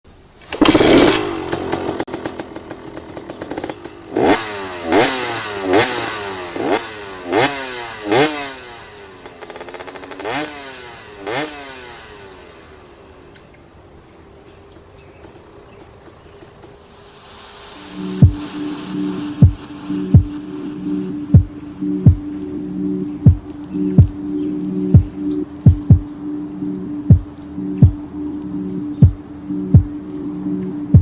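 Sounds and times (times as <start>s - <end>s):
motorcycle engine revving: 0.5s - 13.2s, 14.7s - 31.0s.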